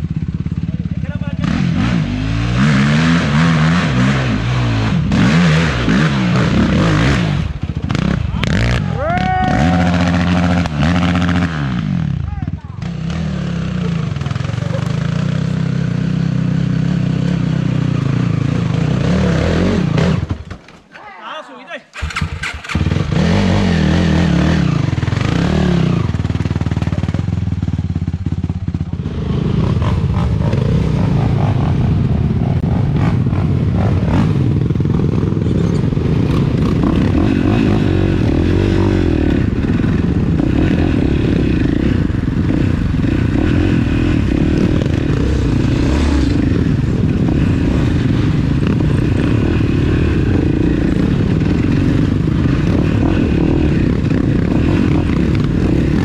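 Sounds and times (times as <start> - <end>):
atv engine running: 0.0 - 20.6, 22.0 - 56.0.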